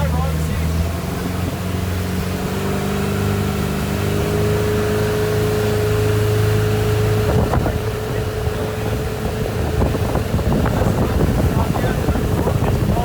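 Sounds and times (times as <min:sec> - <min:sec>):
motorboat engine running: 0:00.0 - 0:13.0
rushing water: 0:00.0 - 0:13.0
wind: 0:00.0 - 0:13.0.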